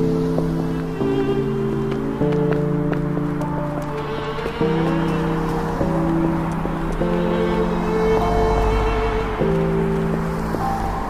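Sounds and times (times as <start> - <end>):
bowed strings holding long notes: 0.0 - 11.0.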